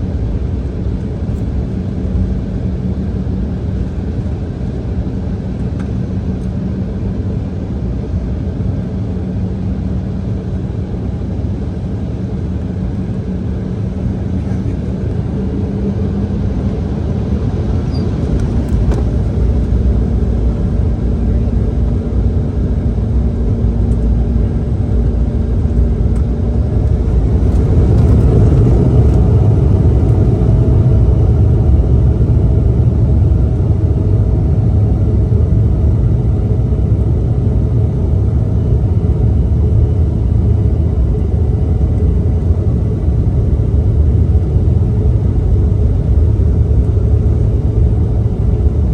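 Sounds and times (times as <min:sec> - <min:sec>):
jet engine cabin rumble: 0:00.0 - 0:48.9.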